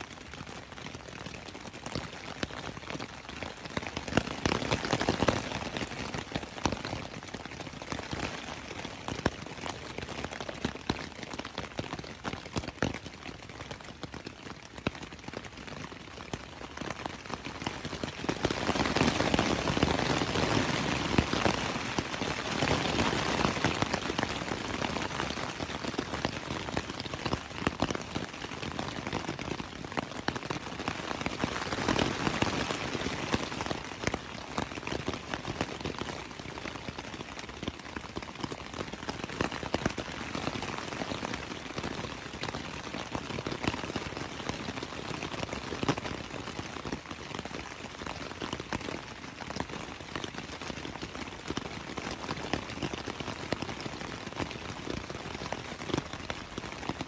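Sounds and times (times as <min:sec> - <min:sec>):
rain pattering on tent fabric: 0:00.0 - 0:57.0.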